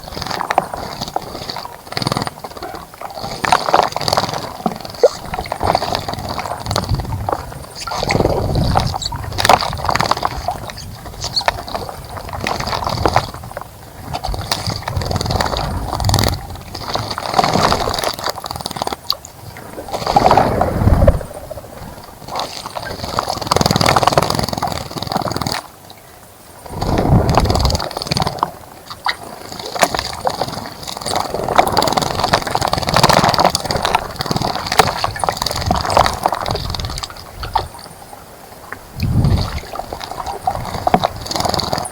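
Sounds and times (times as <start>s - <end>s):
wings fluttering: 0.0s - 25.7s, 26.6s - 37.8s, 39.0s - 41.9s
water splashing: 0.0s - 25.8s, 26.6s - 38.0s, 38.6s - 41.9s.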